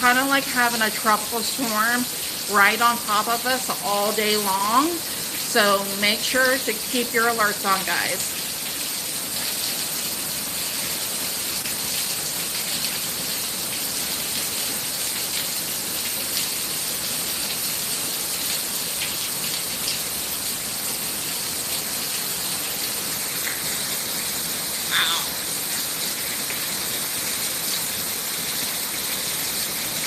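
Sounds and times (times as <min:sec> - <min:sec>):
heavy rain hiss: 0:00.0 - 0:30.0.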